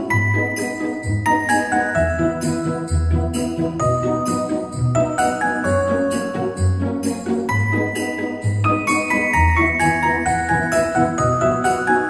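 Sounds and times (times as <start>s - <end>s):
jingle bells shaken: 0.0s - 12.0s.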